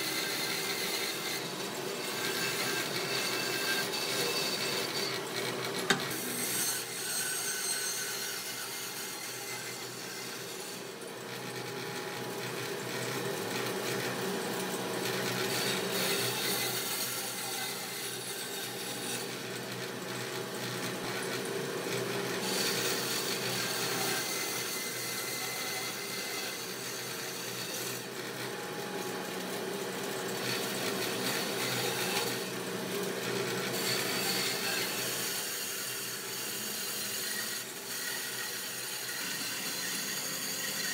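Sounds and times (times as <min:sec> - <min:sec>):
bandsaw humming: 0:00.0 - 0:11.1, 0:13.1 - 0:40.9.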